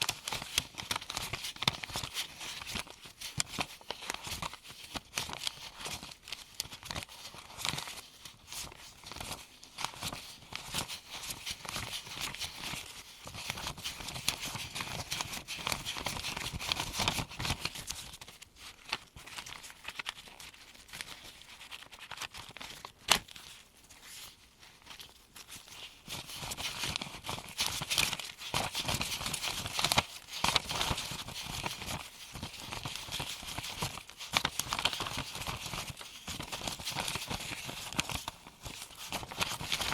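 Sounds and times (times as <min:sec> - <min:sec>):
paper bills rustling: 0:00.0 - 0:39.9.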